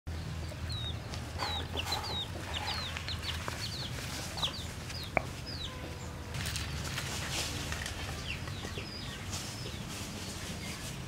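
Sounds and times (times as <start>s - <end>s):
chicks peeping: 0.1s - 6.1s, 7.8s - 11.0s.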